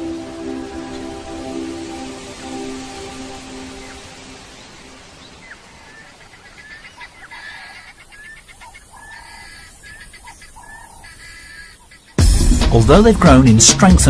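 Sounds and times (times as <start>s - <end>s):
birds chirping and chattering: 0.0s - 12.4s.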